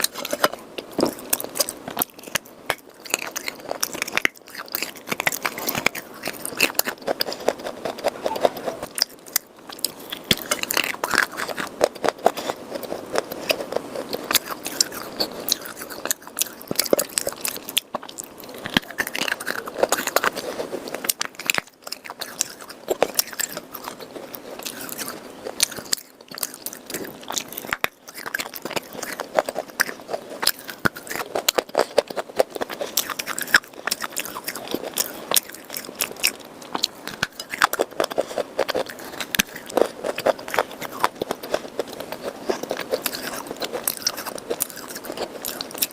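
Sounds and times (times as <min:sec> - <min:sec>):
chewing crunchy clay: 0:00.0 - 0:45.9.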